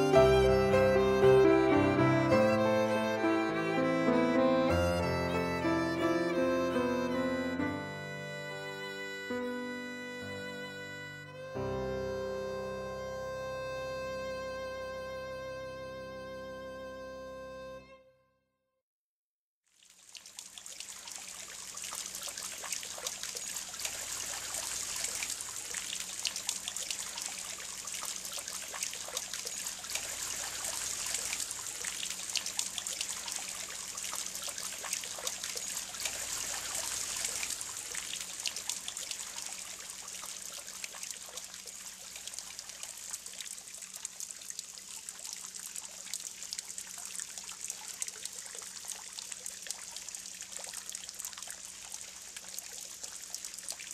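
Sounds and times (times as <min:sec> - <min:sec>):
fountain splashing and trickling: 0:00.0 - 0:09.3, 0:19.7 - 0:53.9.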